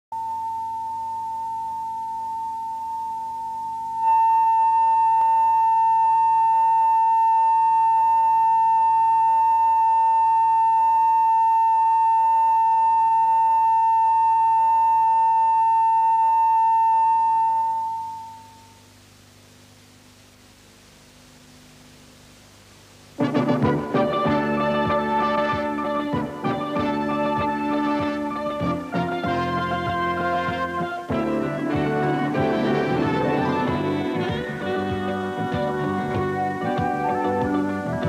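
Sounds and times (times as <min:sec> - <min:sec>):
steady test tone: 0:00.2 - 0:19.1, 0:22.0 - 0:38.0.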